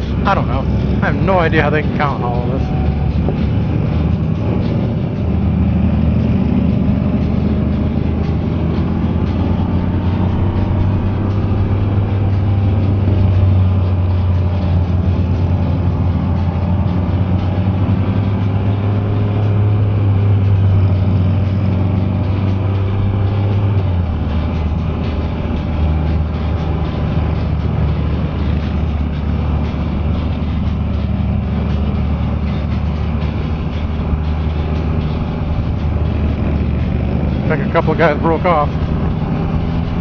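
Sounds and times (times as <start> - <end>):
motorcycle engine droning: 0.0 - 40.0
other motorcycle engines: 0.0 - 40.0.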